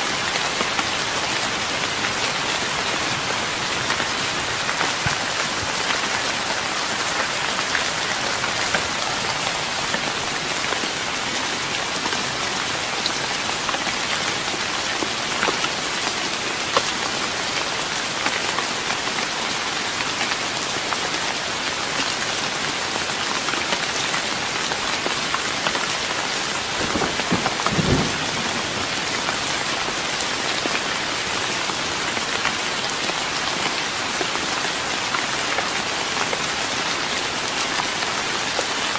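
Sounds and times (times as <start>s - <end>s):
rain pattering on wooden deck: 0.0s - 38.9s.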